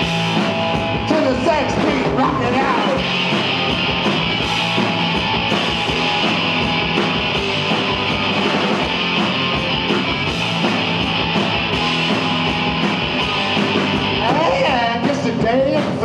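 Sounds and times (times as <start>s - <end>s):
bass guitar: 0.0s - 16.0s
drums with driving beat: 0.0s - 16.0s
electric guitar: 0.0s - 16.0s.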